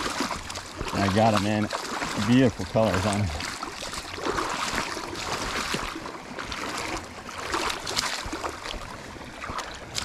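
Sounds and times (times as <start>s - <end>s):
wading through shallow water: 0.0s - 10.0s.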